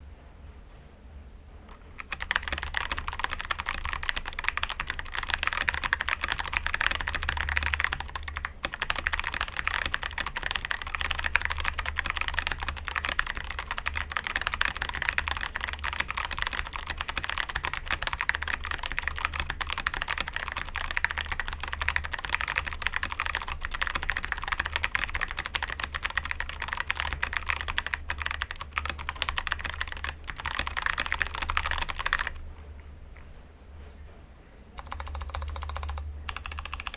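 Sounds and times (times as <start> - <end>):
fast typing on mechanical keyboard: 1.7 - 32.4, 34.8 - 36.9.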